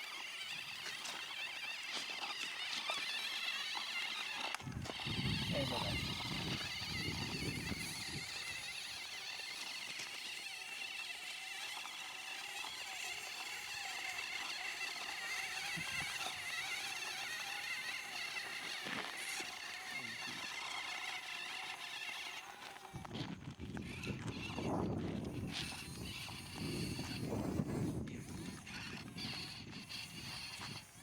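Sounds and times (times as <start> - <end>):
small electric motors whining: 0.0 - 31.0.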